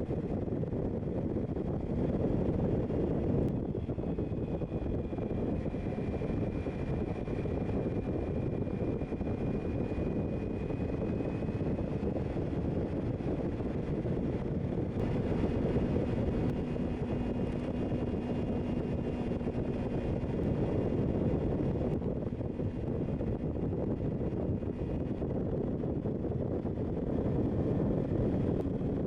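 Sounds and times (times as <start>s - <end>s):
wind noise on microphone: 0.0s - 29.0s
motorcycle riding: 0.1s - 29.0s.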